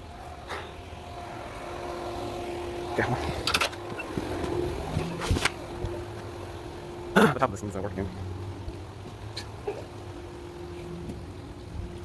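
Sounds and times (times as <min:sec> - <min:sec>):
motor hum with faint whine: 0:00.0 - 0:12.0.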